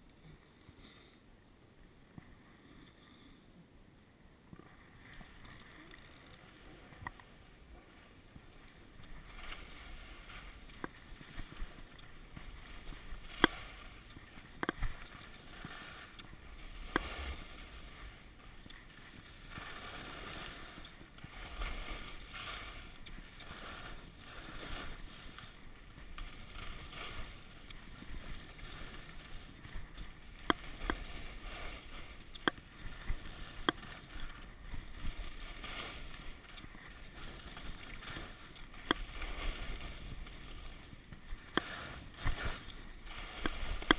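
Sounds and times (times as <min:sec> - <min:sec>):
skis hissing on snow: 0:00.3 - 0:01.2, 0:08.2 - 0:43.9.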